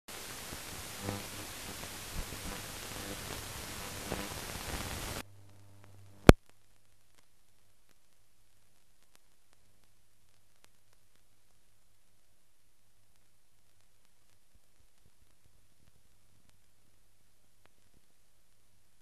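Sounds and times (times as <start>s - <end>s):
film hiss: 0.1s - 19.0s.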